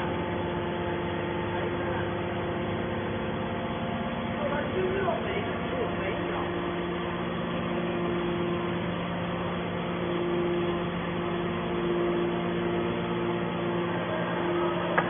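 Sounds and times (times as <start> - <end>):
hydraulic power unit drone: 0.0 - 15.0.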